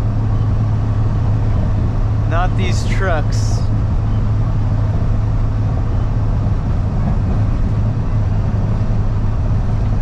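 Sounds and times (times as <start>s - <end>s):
constant low hum: 0.0s - 10.0s
truck engine drone: 0.0s - 10.0s.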